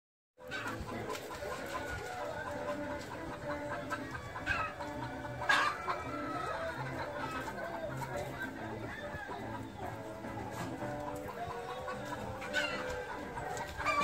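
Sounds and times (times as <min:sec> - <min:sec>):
pheasants clucking and chattering: 0:00.4 - 0:14.0.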